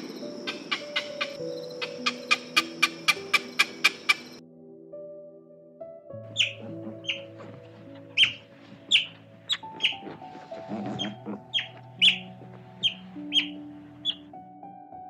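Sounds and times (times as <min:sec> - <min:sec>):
otters chirping: 0:00.0 - 0:04.4, 0:06.3 - 0:14.4
background music: 0:00.0 - 0:15.0.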